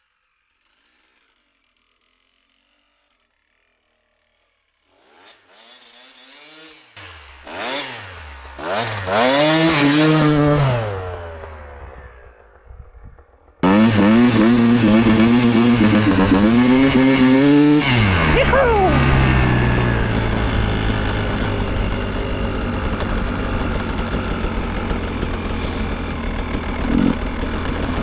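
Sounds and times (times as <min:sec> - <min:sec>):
motorcycle engine revving: 0:05.1 - 0:28.0.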